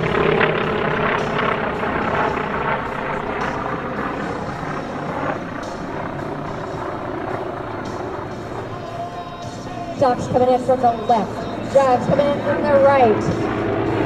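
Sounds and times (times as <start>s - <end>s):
aircraft engines droning overhead: 0.0s - 14.0s.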